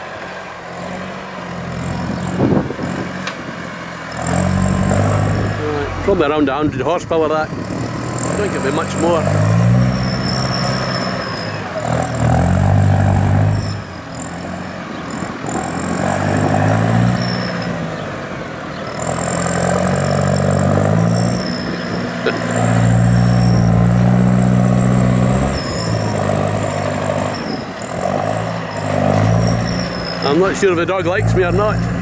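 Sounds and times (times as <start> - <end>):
tractor engine revving under load: 0.0 - 32.0.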